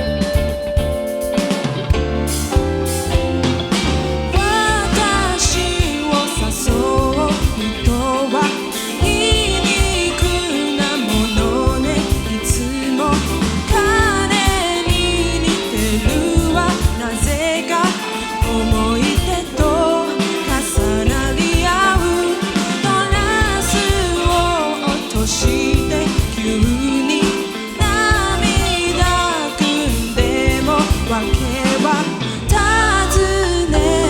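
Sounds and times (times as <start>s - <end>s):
live band playing pop song: 0.0s - 34.0s
person singing: 3.4s - 34.0s.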